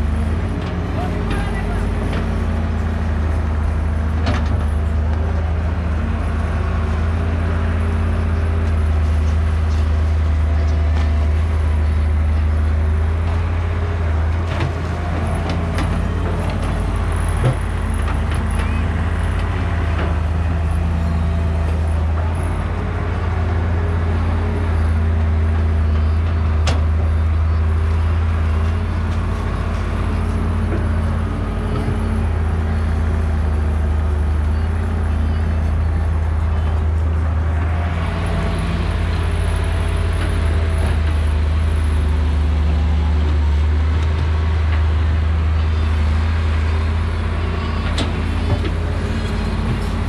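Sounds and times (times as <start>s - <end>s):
excavator diesel engine under load: 0.0s - 50.0s.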